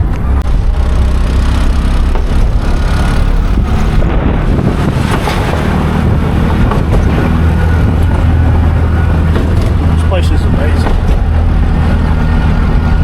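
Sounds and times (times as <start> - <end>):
vehicle engine running: 0.0 - 13.0
wind and road noise: 0.0 - 13.0.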